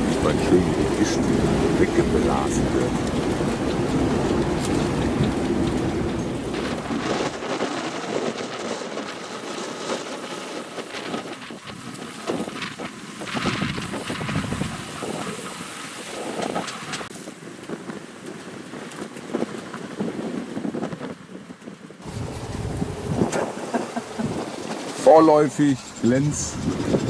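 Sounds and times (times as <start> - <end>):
strong wind buffeting microphone: 0.0 - 27.0
water splashing along hull: 0.0 - 27.0.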